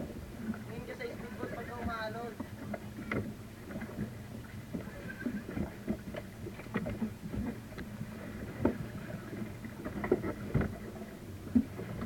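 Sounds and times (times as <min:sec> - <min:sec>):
water slapping against hull: 0:00.0 - 0:12.0.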